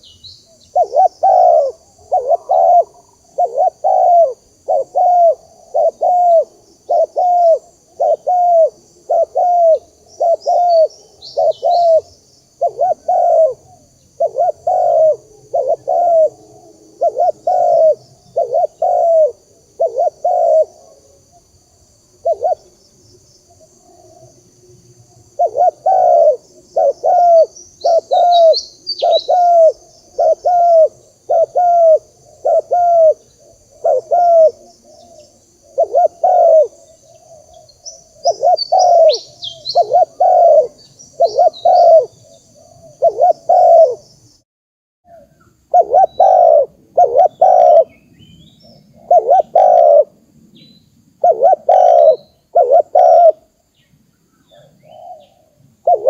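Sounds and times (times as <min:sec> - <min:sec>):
small birds chirping: 0:00.0 - 0:16.4, 0:17.0 - 0:24.5, 0:25.2 - 0:44.4, 0:45.1 - 0:56.0
dove cooing: 0:00.0 - 0:21.4, 0:22.2 - 0:22.8, 0:23.5 - 0:24.4, 0:25.2 - 0:44.1, 0:45.1 - 0:48.0, 0:48.6 - 0:50.2, 0:51.2 - 0:53.5, 0:54.5 - 0:56.0.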